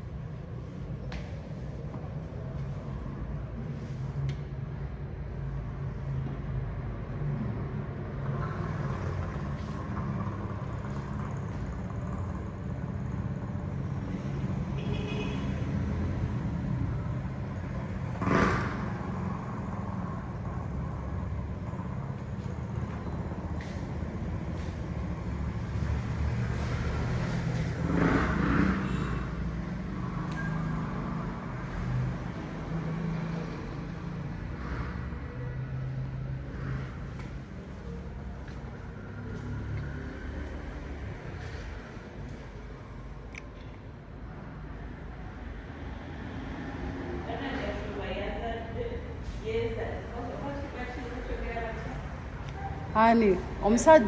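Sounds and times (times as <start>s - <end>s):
passing vehicles rumbling: 0.0s - 54.0s.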